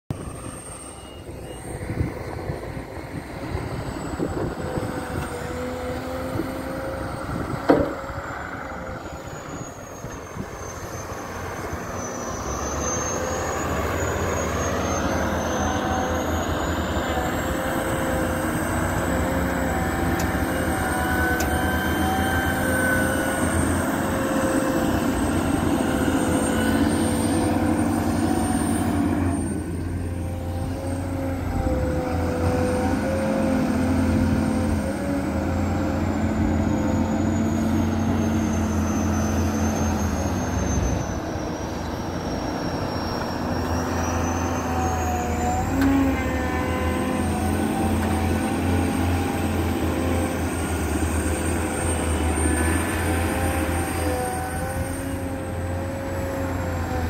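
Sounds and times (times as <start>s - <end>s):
excavator diesel engine drone: 0.0s - 57.0s
hydraulic whine: 0.1s - 57.0s.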